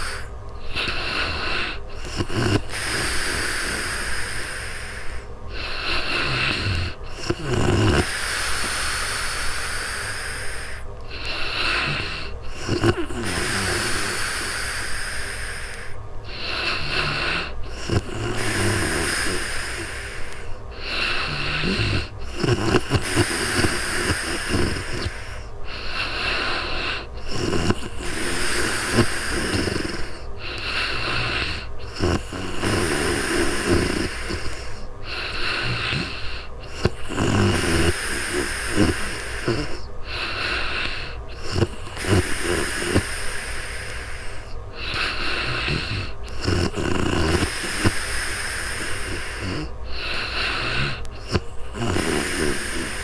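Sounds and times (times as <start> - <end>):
airy breaths: 0.0 - 53.0
woman snoring: 0.0 - 53.0.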